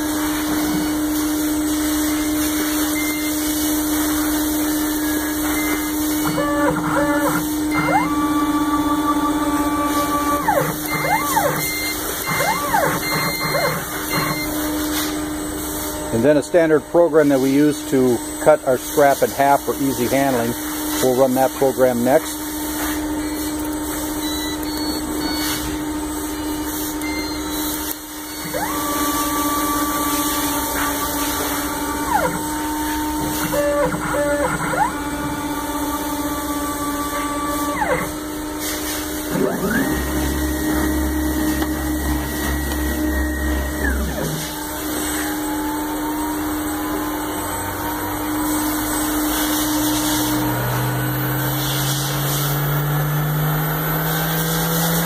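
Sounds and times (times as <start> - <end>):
drive motors whining: 0.0 - 55.0
router spindle whine: 0.0 - 55.0.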